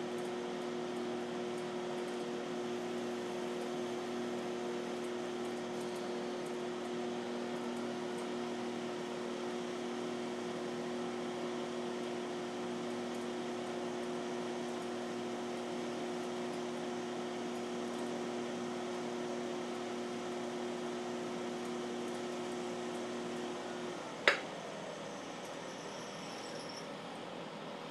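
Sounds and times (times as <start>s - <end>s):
potter's wheel motor humming: 0.0s - 27.9s.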